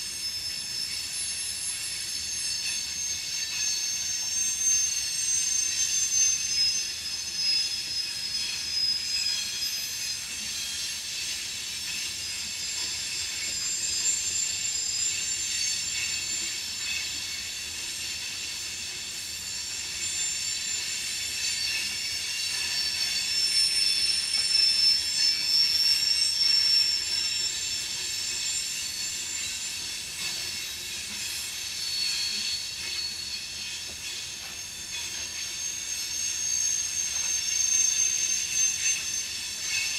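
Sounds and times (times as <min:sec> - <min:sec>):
low rolling rumble of train: 0:00.0 - 0:39.9
train wheel flanges squealing: 0:00.0 - 0:39.9.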